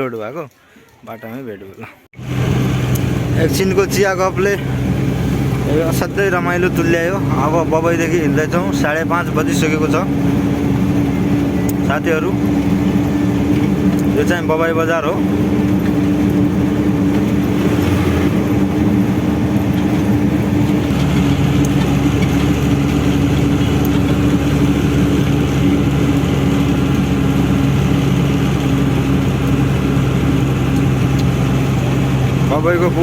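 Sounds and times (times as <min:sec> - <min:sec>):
truck diesel engine running: 0:02.2 - 0:33.0.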